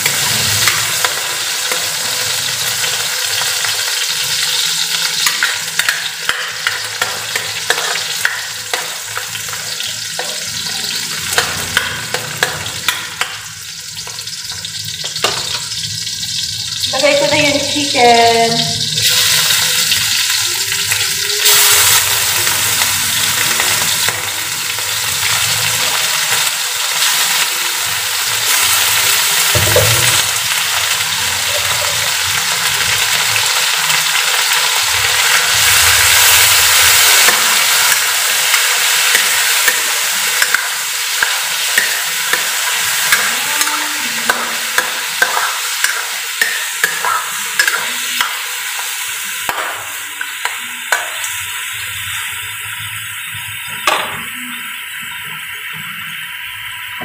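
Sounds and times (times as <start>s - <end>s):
chicken sizzling in hot oil: 0.0s - 57.0s.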